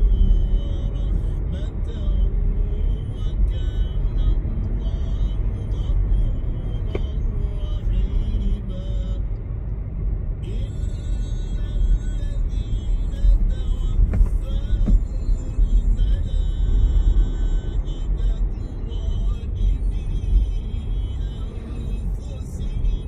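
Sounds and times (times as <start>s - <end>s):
car driving rumble: 0.0s - 23.0s.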